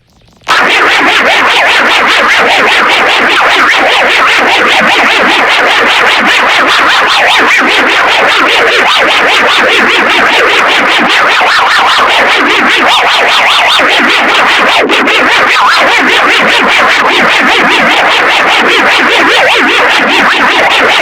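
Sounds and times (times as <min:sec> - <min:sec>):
distorted electronic alarm pulsing: 0:00.0 - 0:21.0.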